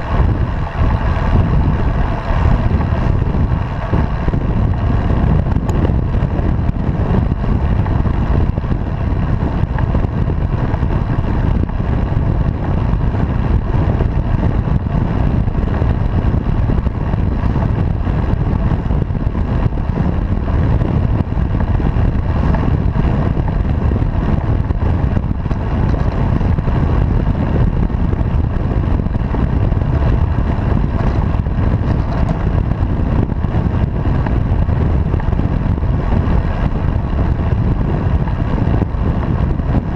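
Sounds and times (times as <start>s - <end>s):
tyre and road rumble: 0.0s - 39.9s
wind rushing over microphone: 0.0s - 39.9s.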